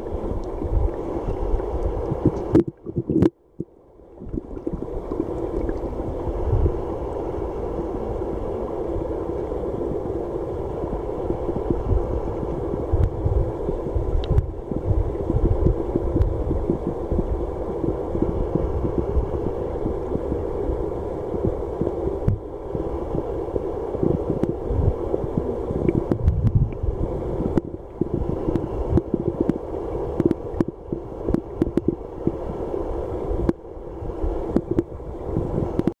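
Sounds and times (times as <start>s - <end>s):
underwater river current rushing: 0.0s - 35.9s.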